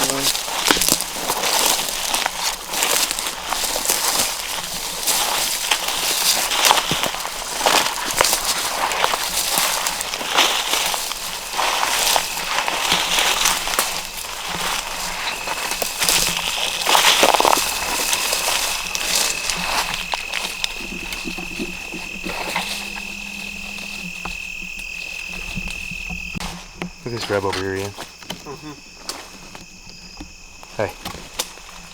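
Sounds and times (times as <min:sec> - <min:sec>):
footsteps crunching through dry leaves: 0:00.0 - 0:28.2, 0:28.9 - 0:29.8, 0:30.4 - 0:31.9
high insect trill: 0:00.0 - 0:31.9.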